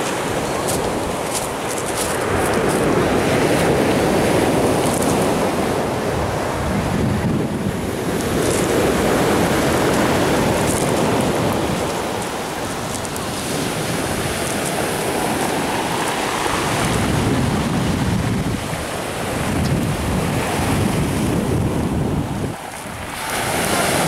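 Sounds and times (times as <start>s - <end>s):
waves on pebble beach: 0.0s - 24.0s
wind rumbling on microphone: 0.0s - 24.0s.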